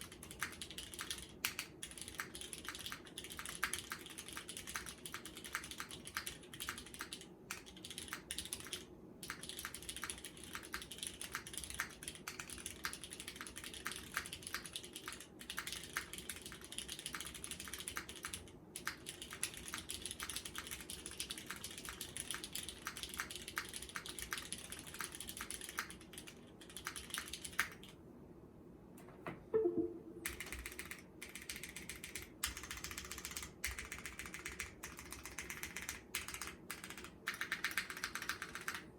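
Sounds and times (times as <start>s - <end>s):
mechanical keyboard typing: 0.0s - 28.0s, 30.2s - 38.9s.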